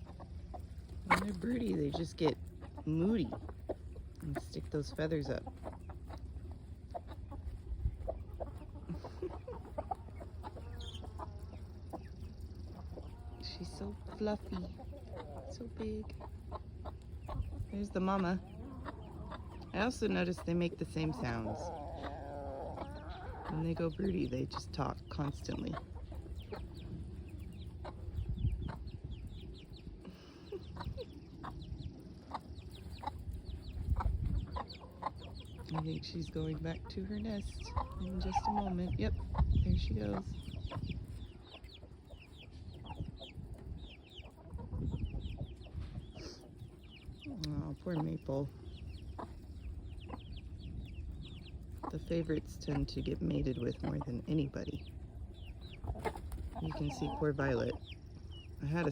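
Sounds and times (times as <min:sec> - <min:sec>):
chicks chirping: 0:00.0 - 0:58.9
hen clucking: 0:00.0 - 0:58.9.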